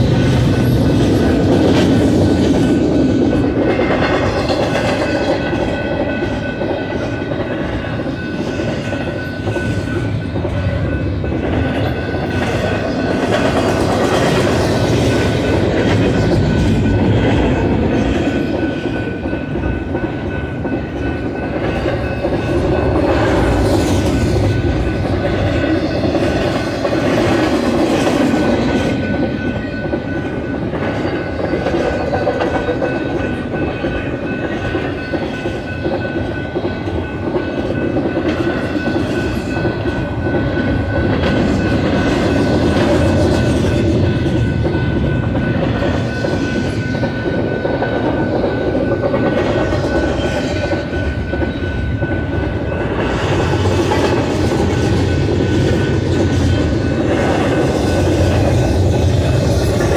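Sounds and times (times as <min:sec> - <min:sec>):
freight train wheels clacking: 0:00.0 - 0:59.9.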